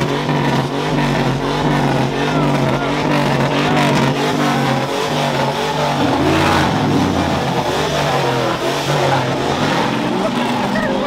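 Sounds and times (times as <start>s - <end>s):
engines running and revving: 0.0s - 11.0s
traffic passing: 0.0s - 11.0s.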